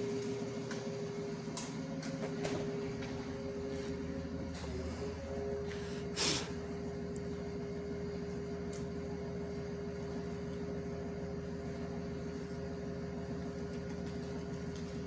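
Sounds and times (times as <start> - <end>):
fire truck engine droning: 0.0 - 15.0.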